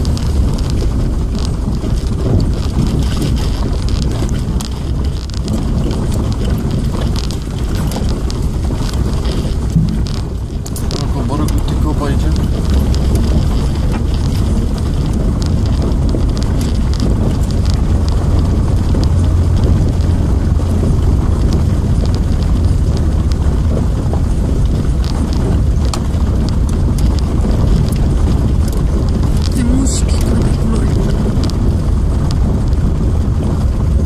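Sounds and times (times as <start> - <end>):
car engine and tyre rumble: 0.0 - 34.0
gravel clicks: 0.0 - 34.0.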